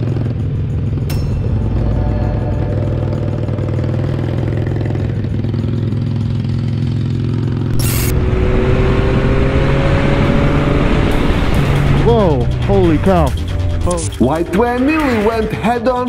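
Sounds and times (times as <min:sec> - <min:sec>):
motorcycle accelerating: 0:00.0 - 0:16.0
motorcycle engine running: 0:00.0 - 0:16.0.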